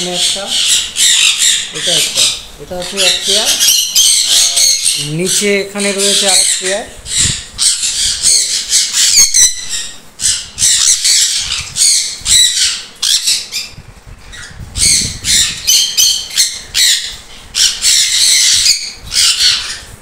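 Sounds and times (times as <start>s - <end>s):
parrots screeching: 0.0s - 20.0s.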